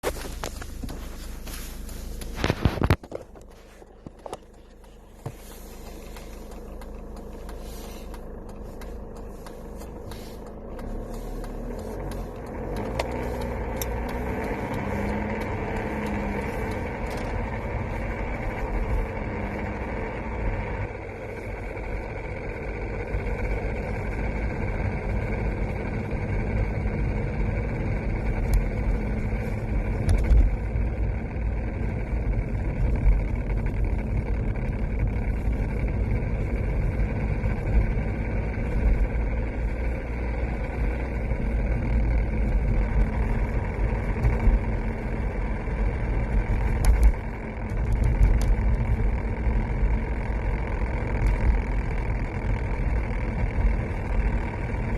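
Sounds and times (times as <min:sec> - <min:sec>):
car engine rumble from inside: 0:00.0 - 0:54.9.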